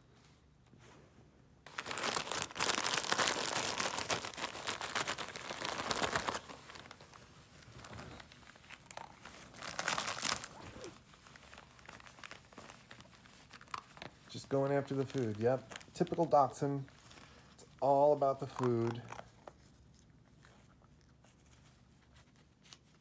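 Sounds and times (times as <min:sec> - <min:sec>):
wrapping paper crinkling and tearing: 0:01.7 - 0:20.6.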